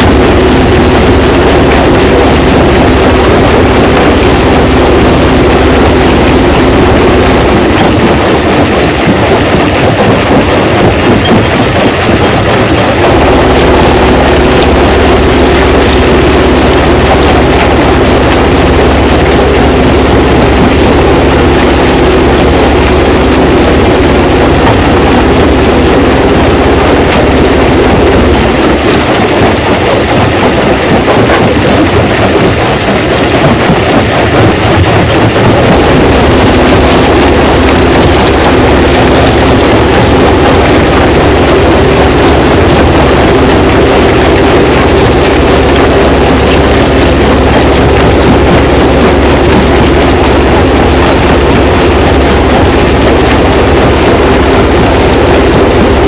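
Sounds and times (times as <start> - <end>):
engine drone: 0.0 - 56.0
rock crushing machine rattling: 0.0 - 56.0.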